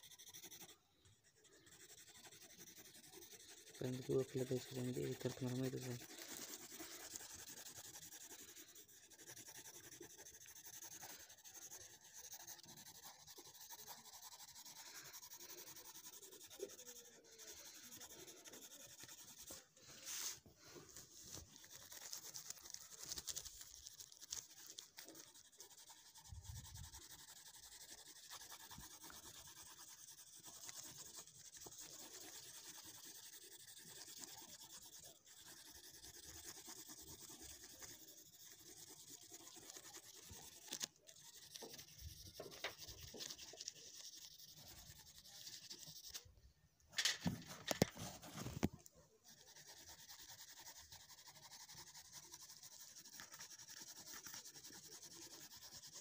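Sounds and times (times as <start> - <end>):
pencil scratching on paper: 0.0 - 46.3, 47.1 - 56.0.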